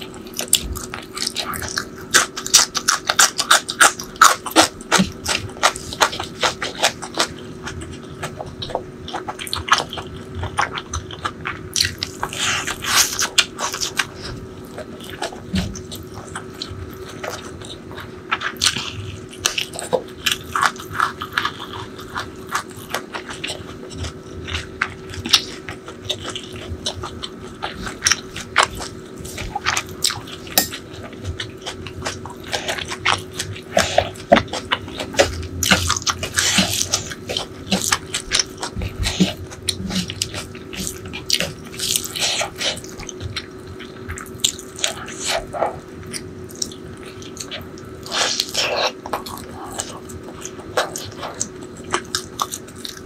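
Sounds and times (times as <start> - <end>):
wet chewing and mouth sounds: 0.0 - 53.0.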